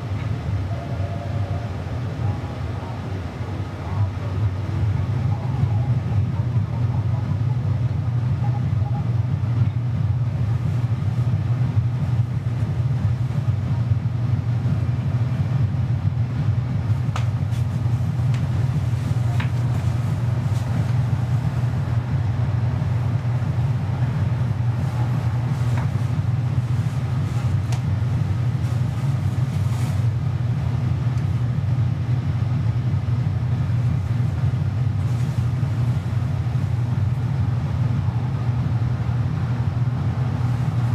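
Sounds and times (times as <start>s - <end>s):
low rumble: 0.0s - 40.9s.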